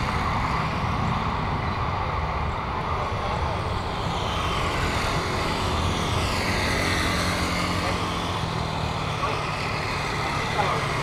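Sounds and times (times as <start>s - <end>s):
airliner engines passing overhead: 0.0s - 11.0s.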